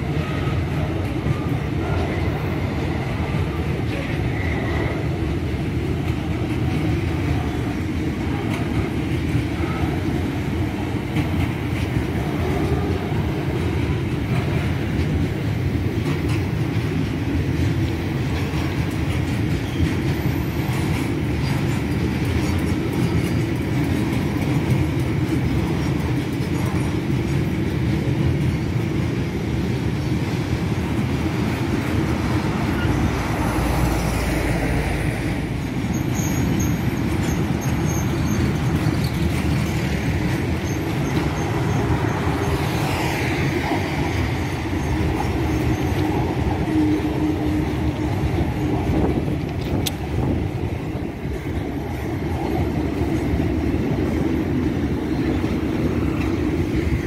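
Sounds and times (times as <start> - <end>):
freight train rolling on rails: 0.0 - 57.0.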